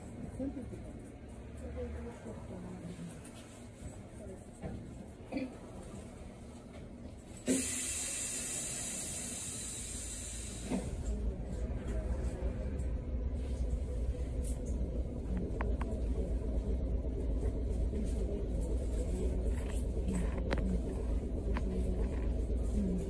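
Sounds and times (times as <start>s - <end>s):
streetcar motor rumble: 0.0s - 23.0s.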